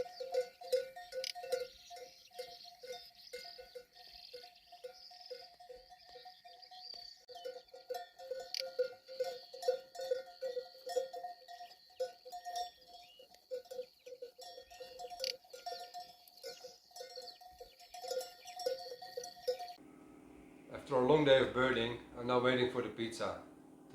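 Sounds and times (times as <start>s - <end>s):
faint high chirps: 0.0s - 22.0s
livestock bells clanking: 0.0s - 23.9s.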